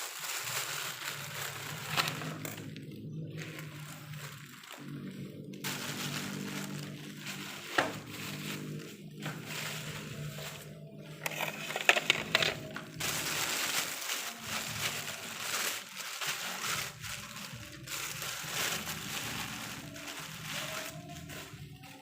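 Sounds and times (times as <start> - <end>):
rustling crinkling handling noise: 0.0 - 22.0.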